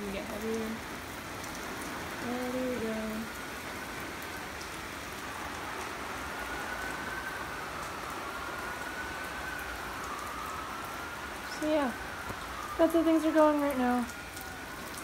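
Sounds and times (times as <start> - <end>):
faint siren wailing: 0.0 - 15.0
heavy rain downpour: 0.0 - 15.0.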